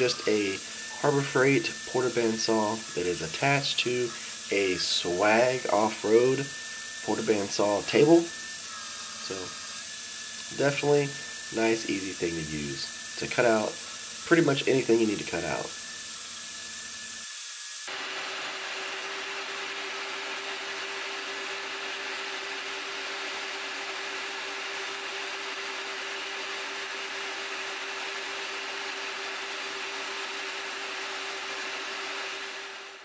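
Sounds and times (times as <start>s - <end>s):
band saw running: 0.0s - 33.0s.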